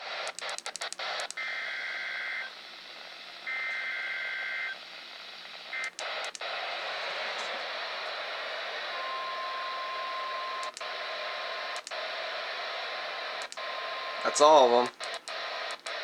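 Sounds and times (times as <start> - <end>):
radio hiss: 0.0 - 16.0
static clicks: 0.0 - 16.0.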